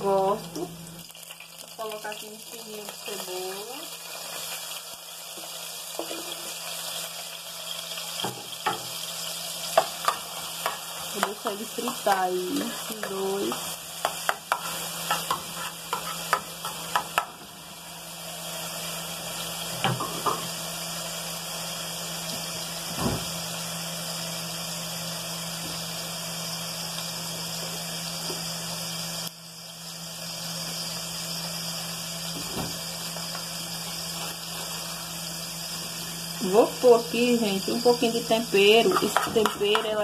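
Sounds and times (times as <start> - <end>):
onion and garlic sizzling: 0.0 - 40.0.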